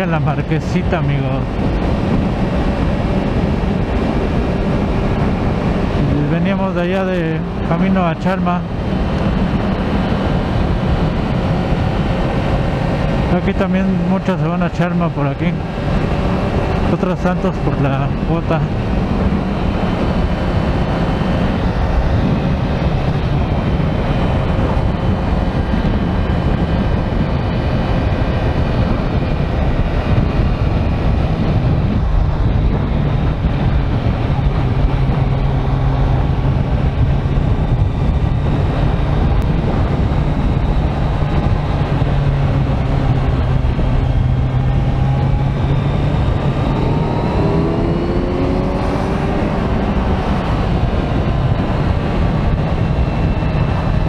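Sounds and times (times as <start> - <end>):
motorcycle engine revving: 0.0 - 54.0
road and air noise: 0.0 - 54.0.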